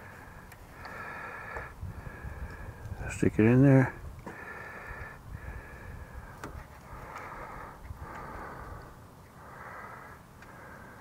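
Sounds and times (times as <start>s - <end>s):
person breathing through nose: 0.0s - 3.0s, 4.3s - 11.0s.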